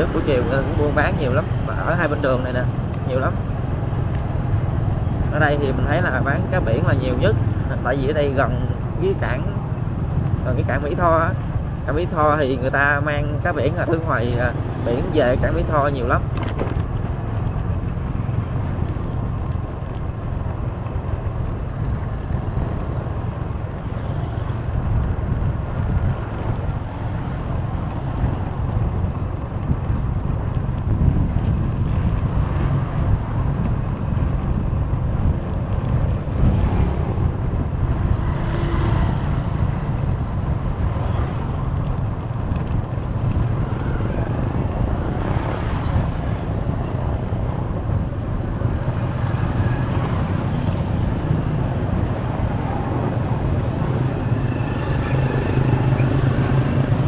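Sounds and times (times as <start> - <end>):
road and wind noise: 0.0 - 57.0
traffic passing: 0.0 - 57.0.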